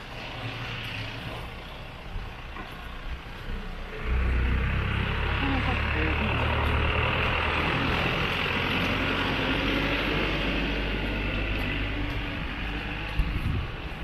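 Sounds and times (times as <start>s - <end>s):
hiss of passing traffic: 0.0s - 14.0s
vehicle engine rumble: 0.0s - 14.0s.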